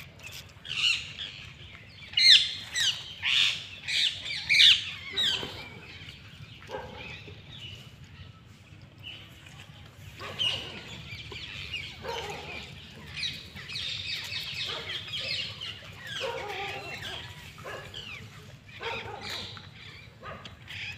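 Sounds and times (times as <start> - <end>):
birds chirping and clucking: 0.0 - 20.9.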